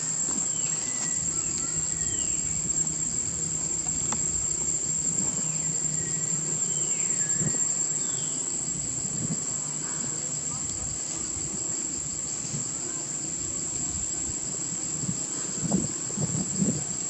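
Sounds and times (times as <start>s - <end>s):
low hum: 0.0s - 16.9s
high-pitched insect drone: 0.0s - 17.0s.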